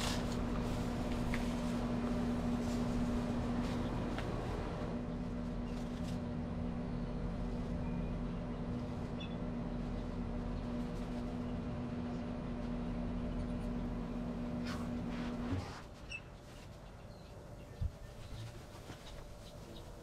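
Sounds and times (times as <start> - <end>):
mechanical hum with low drone: 0.0 - 20.0.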